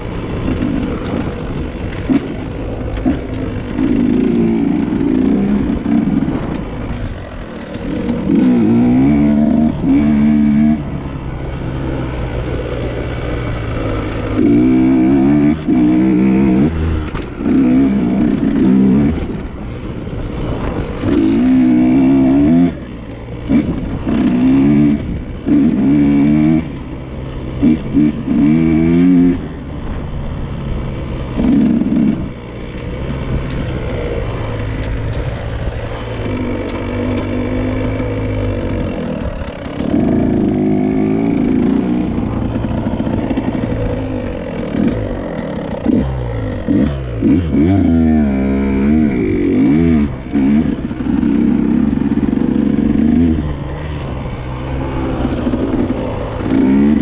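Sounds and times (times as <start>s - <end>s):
dirt bike engine revving: 0.0s - 29.6s, 31.3s - 32.4s, 33.0s - 57.0s.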